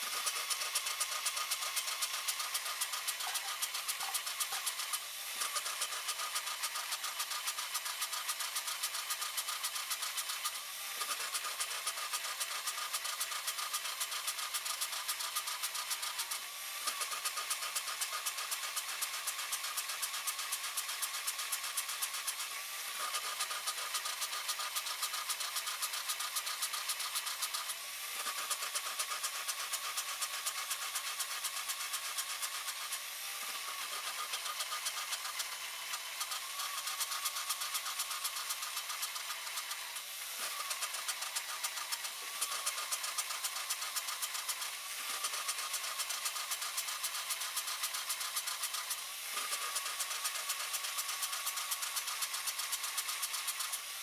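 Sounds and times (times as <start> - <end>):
car engine idling with ticking: 0.1 - 33.0, 33.7 - 39.8, 40.4 - 53.8.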